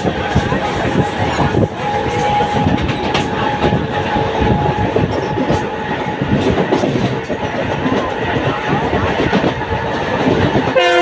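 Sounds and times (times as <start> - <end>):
loud train rumble: 0.0 - 11.0
train wheels clattering over joints: 0.0 - 11.0.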